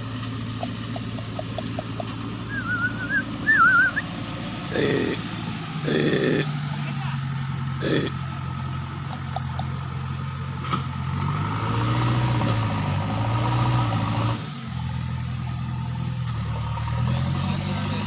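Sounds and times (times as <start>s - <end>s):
engine idling: 0.0s - 11.6s, 14.3s - 18.0s.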